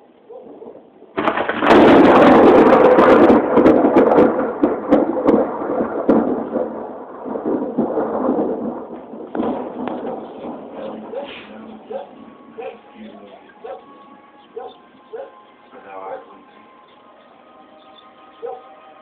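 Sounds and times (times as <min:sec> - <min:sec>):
thunderclap rumbling: 0:00.0 - 0:17.4.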